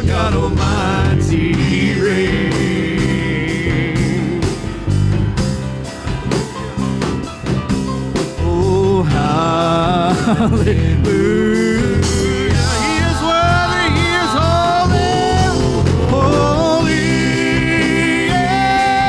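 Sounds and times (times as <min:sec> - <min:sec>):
people singing: 0:00.0 - 0:05.5, 0:08.3 - 0:19.0
steady drum beat: 0:00.0 - 0:19.0
sustained bass notes: 0:00.0 - 0:19.0.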